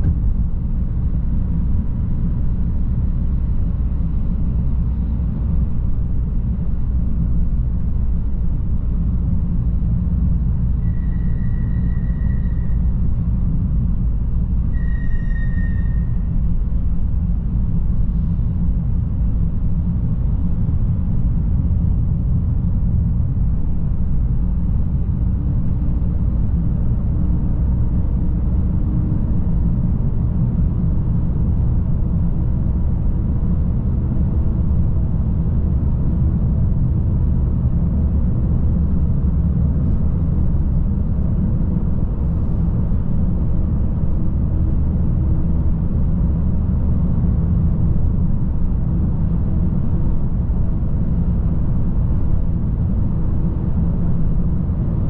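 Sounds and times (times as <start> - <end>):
car driving through tunnel: 0.0 - 55.0.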